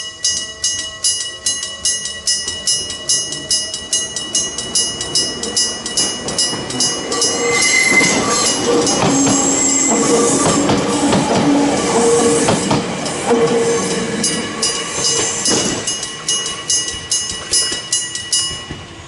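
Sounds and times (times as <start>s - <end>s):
electric train passing: 0.0s - 19.0s
level-crossing bell ringing: 0.0s - 19.0s
train wheels squealing: 2.6s - 19.0s.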